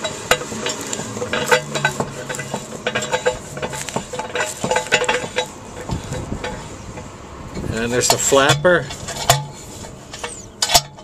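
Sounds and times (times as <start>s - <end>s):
valve gate clicks and scrapes: 0.0s - 11.0s.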